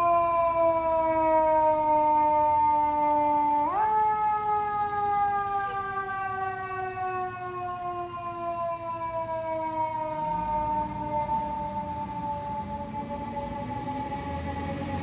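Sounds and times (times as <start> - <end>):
fire engine siren: 0.0 - 15.0.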